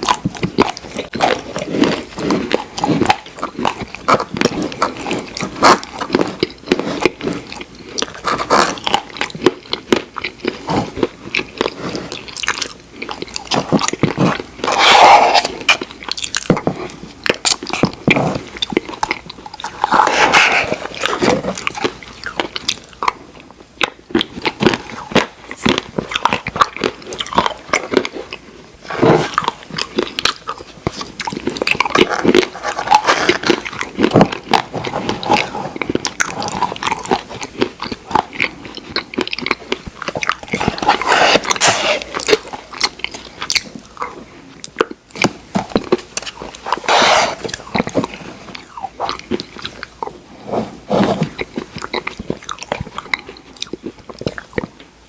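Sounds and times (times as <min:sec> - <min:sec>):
cookie pieces crunching: 0:00.0 - 0:50.2
person biting and chewing: 0:00.0 - 0:54.9.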